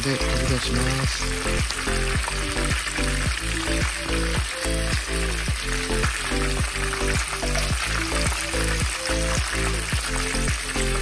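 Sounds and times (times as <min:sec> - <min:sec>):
background music with beat: 0:00.0 - 0:11.0
meat deep-frying in oil: 0:00.0 - 0:11.0.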